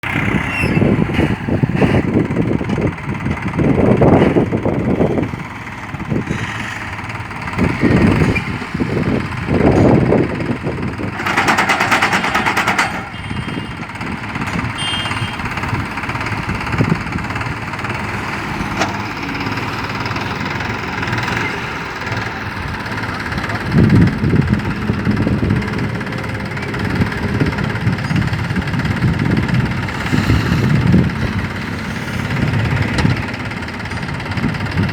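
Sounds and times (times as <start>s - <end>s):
tractor engine under load: 0.0s - 34.9s.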